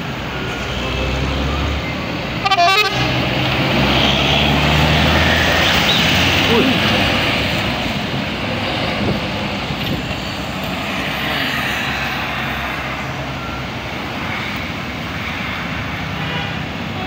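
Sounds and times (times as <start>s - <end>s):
tyre and road noise: 0.0s - 17.0s.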